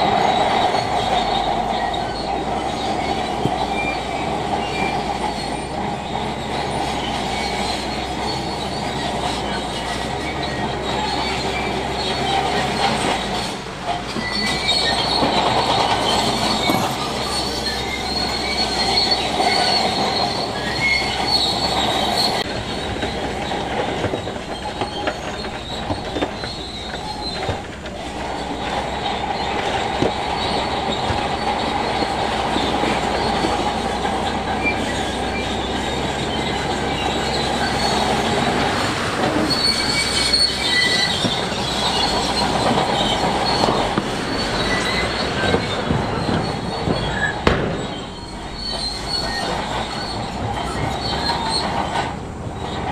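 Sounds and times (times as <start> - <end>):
diesel engine running: 0.0 - 52.9
steel tracks squealing and clanking: 0.0 - 52.9.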